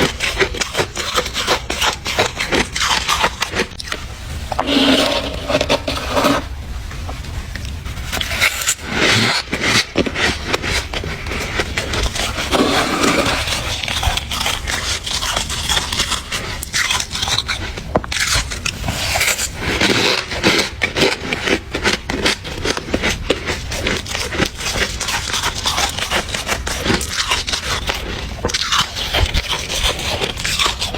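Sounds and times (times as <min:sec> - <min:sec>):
chewing crunchy ice: 0:00.0 - 0:06.6, 0:07.6 - 0:30.9.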